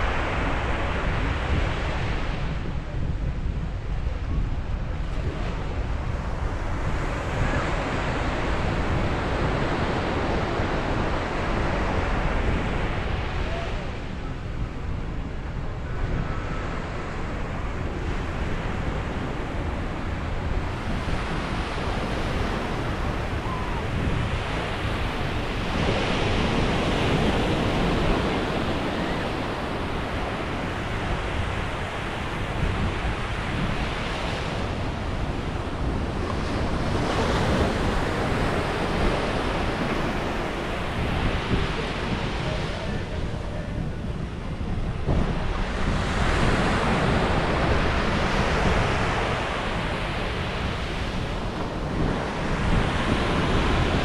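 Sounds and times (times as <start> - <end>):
ocean waves breaking on beach: 0.0 - 54.0
wind buffeting microphone: 0.0 - 54.0.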